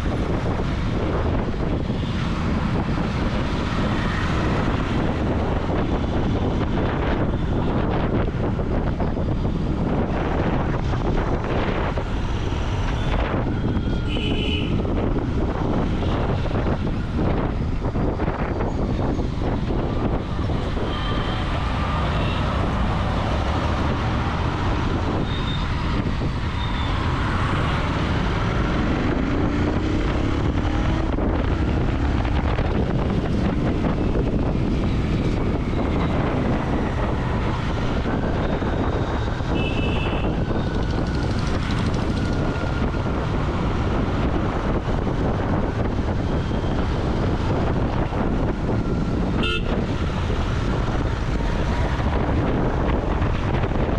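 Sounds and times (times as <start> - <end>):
wind on microphone: 0.0 - 53.9.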